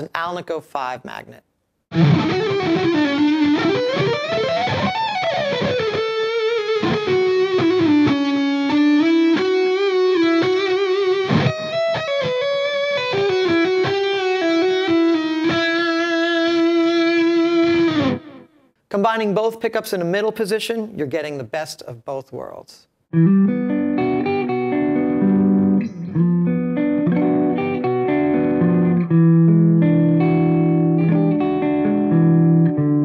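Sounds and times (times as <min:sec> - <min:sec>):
electric guitar lead line: 0:01.9 - 0:18.7, 0:23.1 - 0:33.0.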